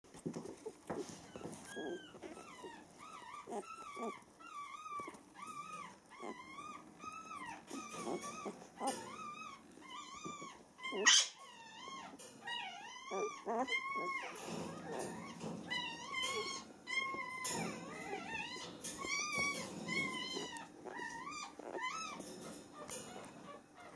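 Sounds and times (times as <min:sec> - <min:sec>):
puppies whimpering and squeaking: 0:00.1 - 0:23.9.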